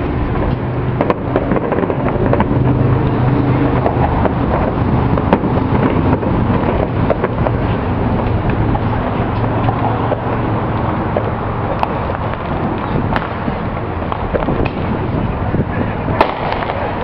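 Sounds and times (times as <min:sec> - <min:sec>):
traffic rumble: 0:00.0 - 0:17.0
distant fireworks bangs: 0:00.9 - 0:17.0.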